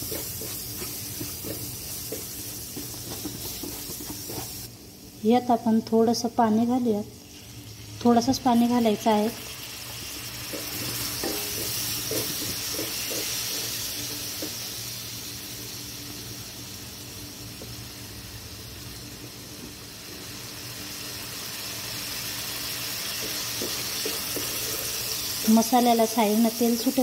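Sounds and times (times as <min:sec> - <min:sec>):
paste sizzling in oil: 0:00.0 - 0:04.7, 0:07.2 - 0:27.0.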